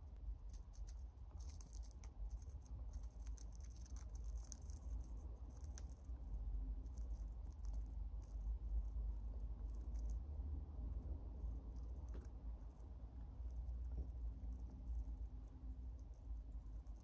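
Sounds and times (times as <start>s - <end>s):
hamster nibbling and crunching: 0.0s - 17.0s.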